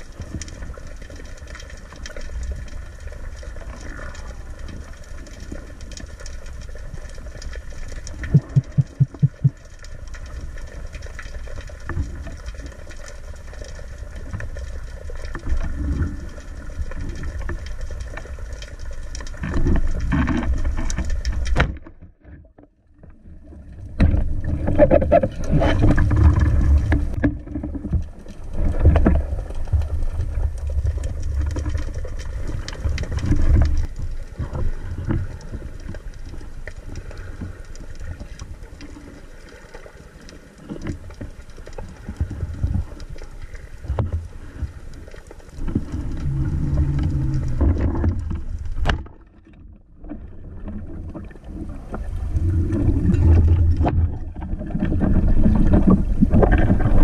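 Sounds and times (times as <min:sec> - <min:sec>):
underwater water rumble: 0:00.0 - 0:57.0.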